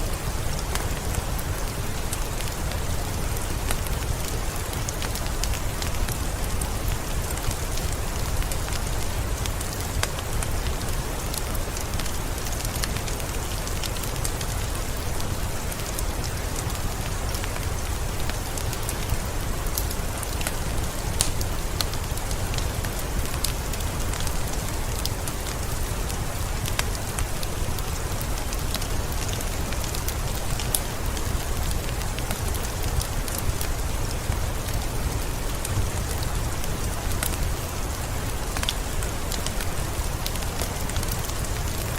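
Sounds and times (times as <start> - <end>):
steady rain falling: 0.0 - 41.9
wood fire crackling: 0.0 - 41.9.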